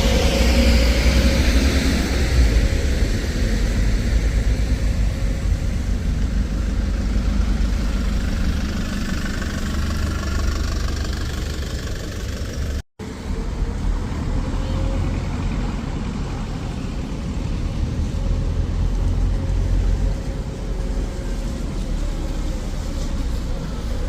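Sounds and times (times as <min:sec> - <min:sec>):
bus engine rumbling: 0:00.0 - 0:24.0
engine whine: 0:00.0 - 0:24.0.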